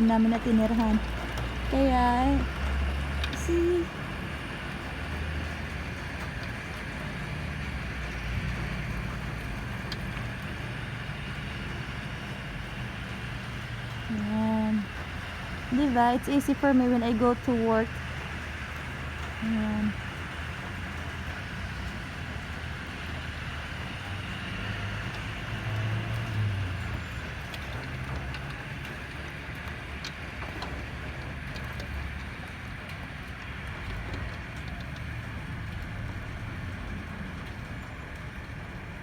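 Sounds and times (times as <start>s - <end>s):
steady rain hiss: 0.0s - 39.0s
traffic on wet highway: 0.0s - 39.0s.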